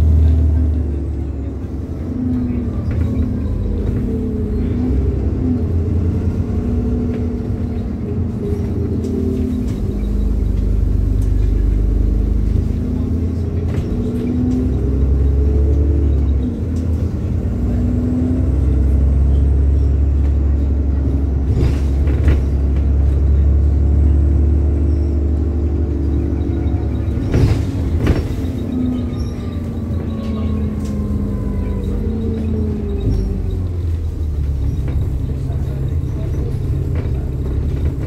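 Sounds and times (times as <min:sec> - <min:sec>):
bus diesel engine rumbling: 0:00.0 - 0:38.0.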